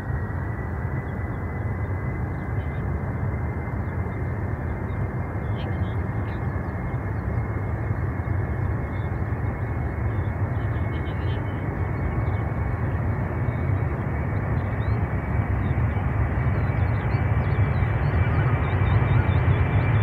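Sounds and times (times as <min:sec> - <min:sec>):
high jet whine: 0:00.0 - 0:20.0
jet engines roaring at takeoff: 0:00.0 - 0:20.0.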